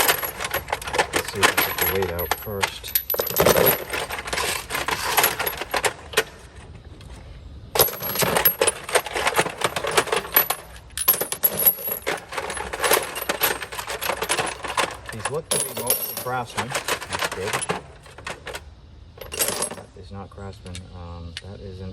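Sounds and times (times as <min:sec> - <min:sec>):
metal hand tools clattering: 0:00.0 - 0:06.5, 0:07.8 - 0:18.6, 0:19.2 - 0:19.9.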